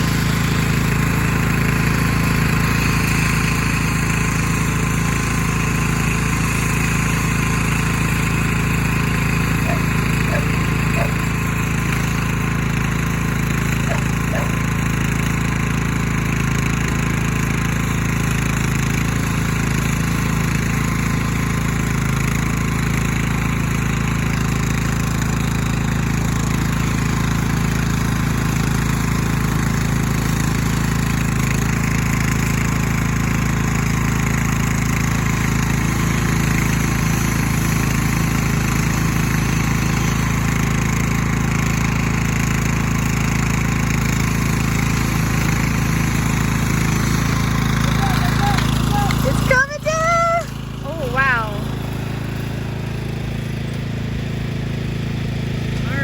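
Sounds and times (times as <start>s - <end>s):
chainsaw engine running at high speed: 0.0s - 56.0s.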